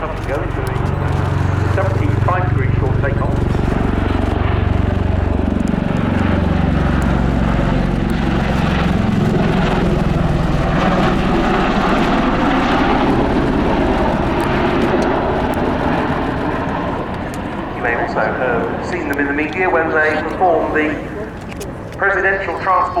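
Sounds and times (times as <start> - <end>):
tilt-rotor aircraft rotor rumble: 0.0 - 23.0.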